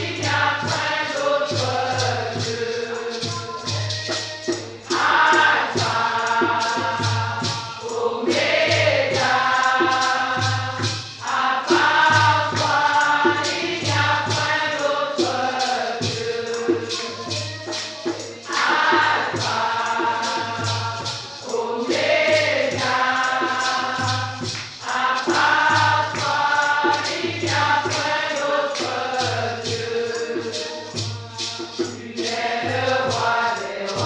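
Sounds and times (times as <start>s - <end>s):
choir singing worship song: 0.0s - 34.0s
shaken percussion: 0.0s - 34.0s.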